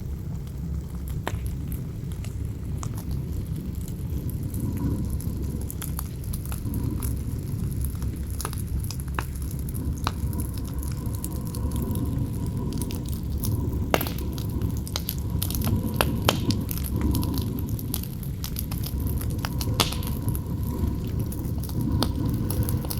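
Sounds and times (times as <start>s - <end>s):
campfire crackling and popping: 0.0s - 22.9s
wind rumbling: 0.0s - 22.9s
wind whistling howl: 1.9s - 22.9s.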